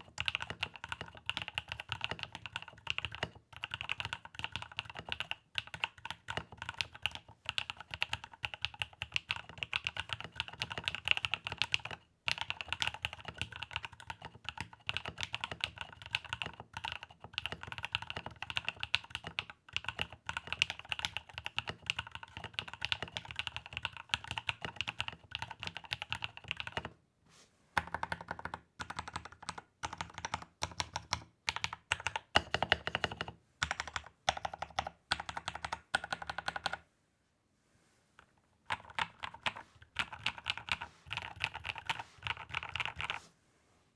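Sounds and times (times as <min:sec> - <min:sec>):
fast mechanical keyboard typing: 0:00.0 - 0:26.9, 0:27.8 - 0:36.8, 0:38.7 - 0:43.2.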